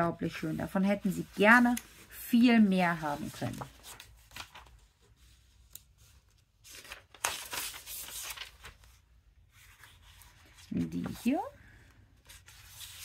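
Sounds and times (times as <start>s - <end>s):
paper and card rustling: 0.3s - 11.6s, 12.2s - 13.0s.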